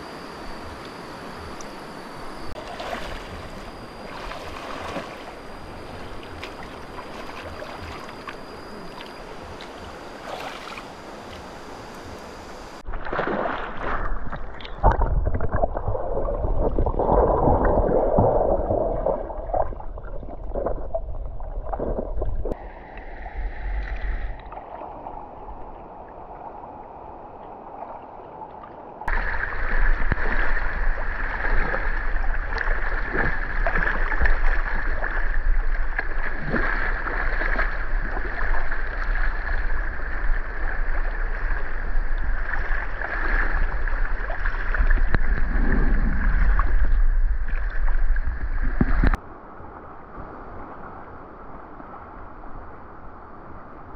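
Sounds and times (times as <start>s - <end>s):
water splashing and sloshing: 0.0s - 49.2s
rushing water: 2.5s - 49.2s.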